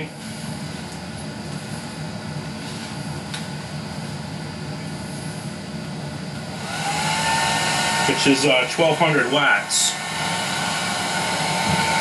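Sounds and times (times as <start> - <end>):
fan motor whooshing hum: 0.0 - 12.0.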